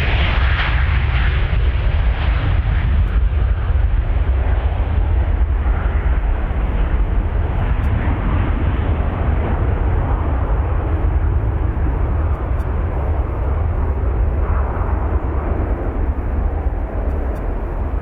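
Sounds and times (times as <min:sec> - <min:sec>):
jet airliner engines running: 0:00.0 - 0:18.0.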